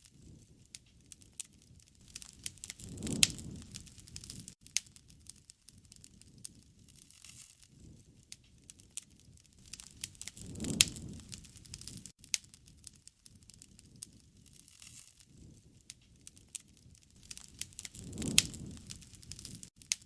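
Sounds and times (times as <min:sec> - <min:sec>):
wood fire crackling: 0:00.0 - 0:20.0
sharp pops from fire: 0:00.1 - 0:20.0.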